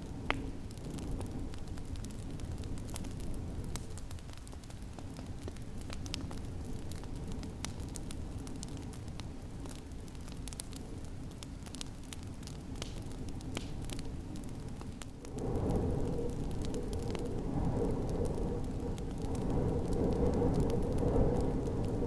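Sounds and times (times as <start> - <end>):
storm wind rumbling: 0.0 - 22.0
wood fire crackling and popping: 0.0 - 22.0.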